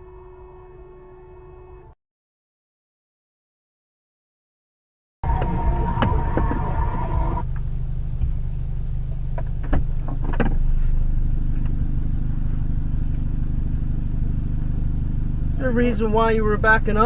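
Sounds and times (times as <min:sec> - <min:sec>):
car engine and road noise: 0:00.0 - 0:02.0, 0:05.2 - 0:17.0.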